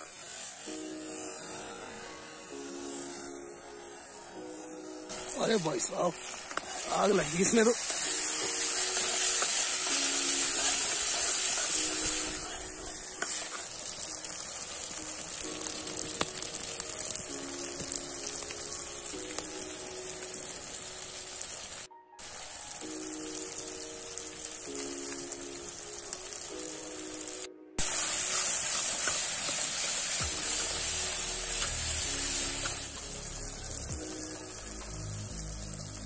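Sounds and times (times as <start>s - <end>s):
masala sizzling in oil: 0.0s - 36.0s
light background melody: 0.1s - 36.0s.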